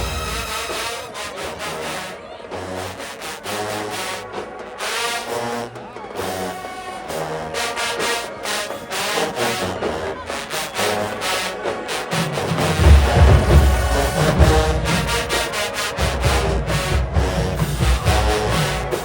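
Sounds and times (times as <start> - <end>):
low brass bass line: 0.0 - 19.0
marching band brass playing: 0.0 - 19.0.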